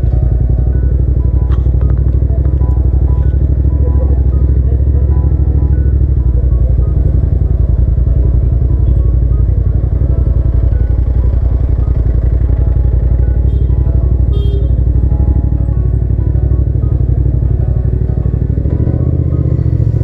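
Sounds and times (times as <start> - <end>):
motorcycle engine throbbing: 0.0 - 20.0.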